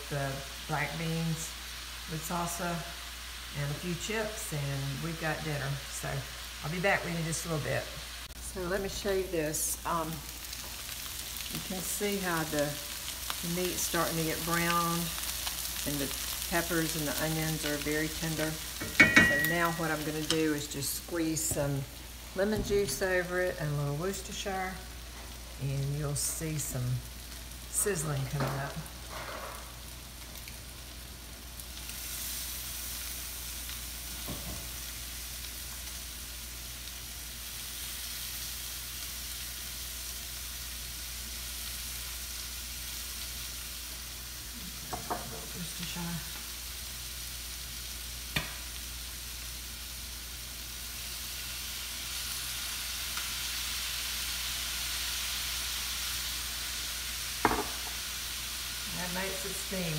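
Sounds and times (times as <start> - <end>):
food sizzling in skillet: 0.0 - 59.9.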